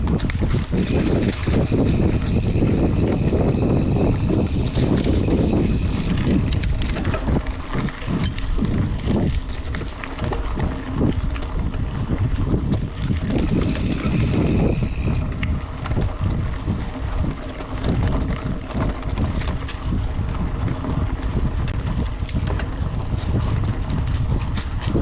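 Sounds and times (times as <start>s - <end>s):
bike rattling and clicking: 0.0s - 25.0s
wind rumbling on microphone: 0.0s - 25.0s.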